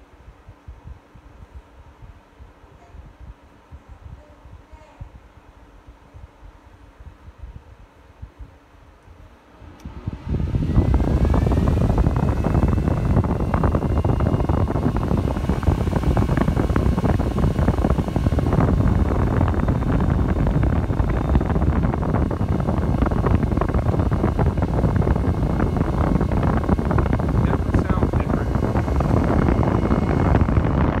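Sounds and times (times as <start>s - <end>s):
airflow buffeting microphone: 0.0s - 31.0s
cooling fan whine: 0.0s - 31.0s.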